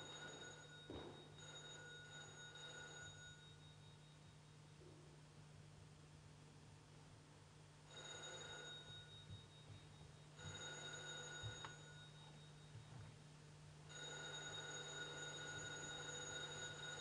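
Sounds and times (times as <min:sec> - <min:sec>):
telephone ringing faintly: 0:00.0 - 0:05.0, 0:07.9 - 0:17.0.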